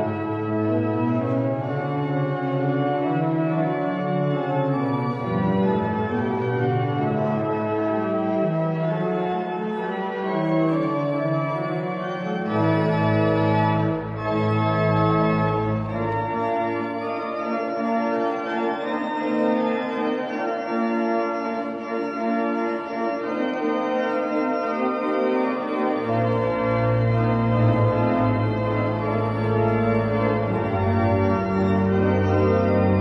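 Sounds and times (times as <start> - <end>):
deep organ pedal bass: 0.0 - 33.0
organ playing full chords: 0.0 - 33.0.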